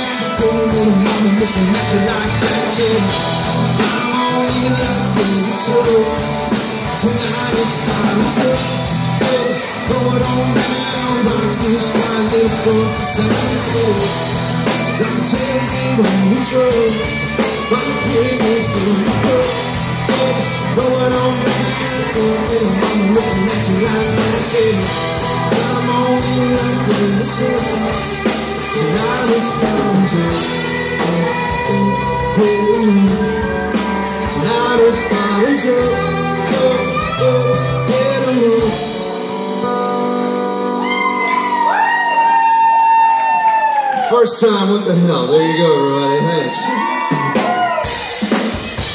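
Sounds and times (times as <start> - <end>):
person singing lead vocal: 0.0 - 42.2
rock band playing live: 0.0 - 48.9.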